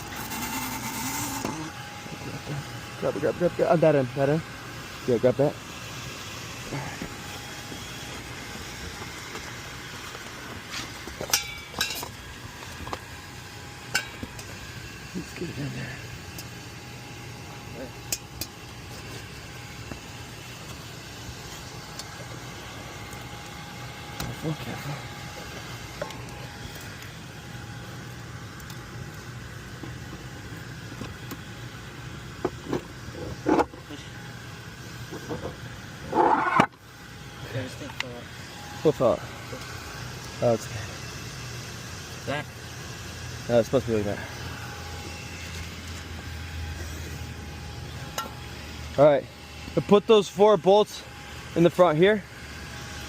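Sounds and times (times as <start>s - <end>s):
low machinery hum: 0.0s - 53.0s.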